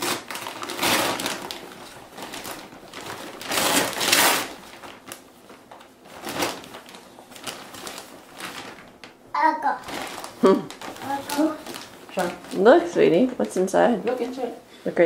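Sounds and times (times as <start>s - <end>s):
wrapping paper crinkling: 0.0s - 14.7s.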